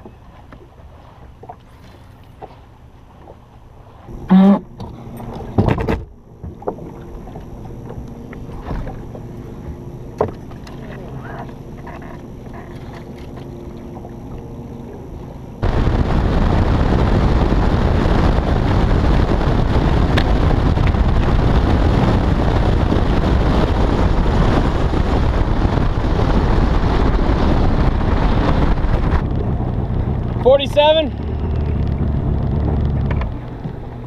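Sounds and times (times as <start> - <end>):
low hum: 0.0 - 34.0
wind buffeting on microphone: 4.1 - 34.0.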